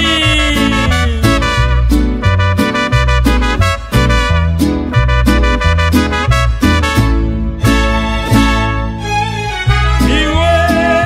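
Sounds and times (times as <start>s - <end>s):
instrumental backing track: 1.1s - 11.0s.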